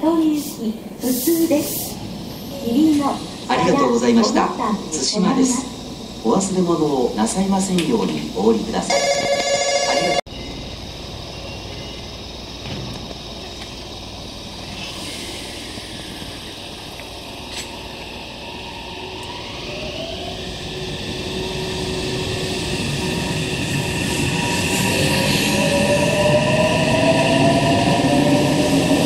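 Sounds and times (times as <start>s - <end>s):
electric train traction motors whining: 2.2s - 29.0s.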